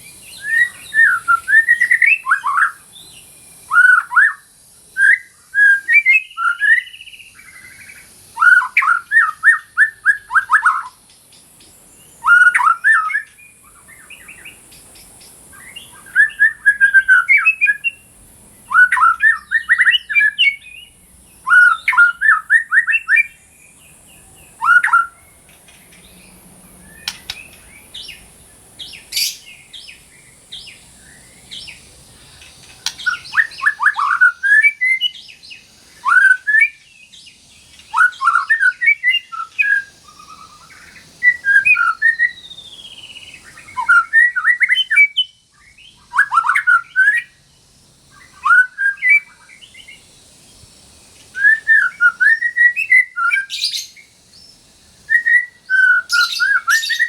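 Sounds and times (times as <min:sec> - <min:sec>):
bird singing loudly: 0:00.0 - 0:11.0, 0:12.0 - 0:25.4, 0:26.0 - 0:47.5, 0:48.1 - 0:50.1, 0:51.3 - 0:57.0.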